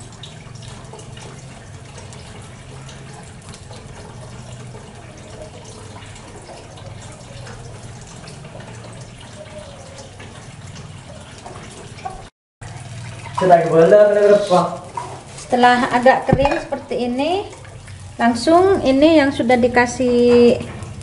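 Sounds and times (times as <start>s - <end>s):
batter sizzling and bubbling: 0.0s - 21.0s.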